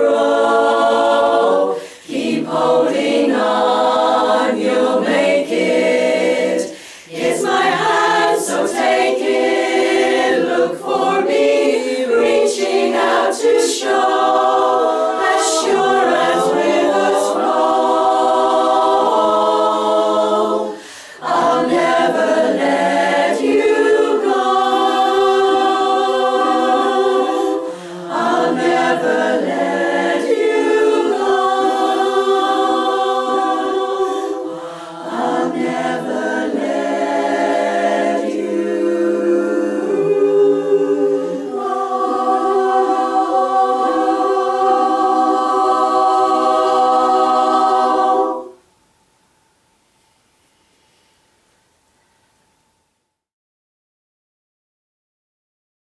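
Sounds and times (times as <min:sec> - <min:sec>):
women's chorus singing a cappella: 0:00.0 - 0:48.7.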